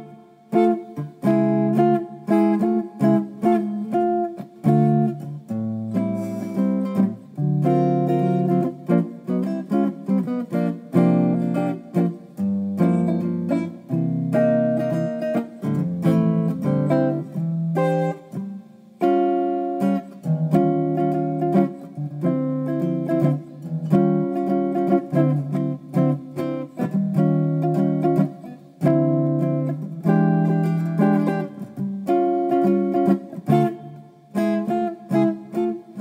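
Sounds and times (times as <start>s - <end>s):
guitar chords strummed and picked: 0.0s - 36.0s.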